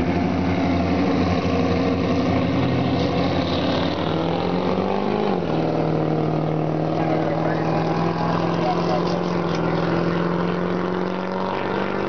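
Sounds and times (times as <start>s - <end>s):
engine revving: 0.0s - 12.0s
vehicle engines idling: 0.0s - 12.0s.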